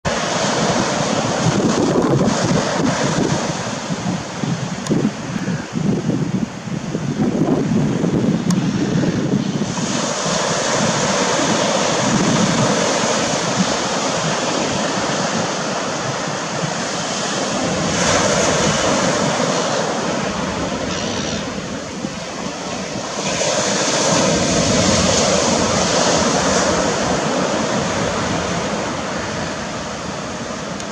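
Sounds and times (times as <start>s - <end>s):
wind gusting on microphone: 0.0s - 30.9s
surf breaking on beach: 0.1s - 30.9s.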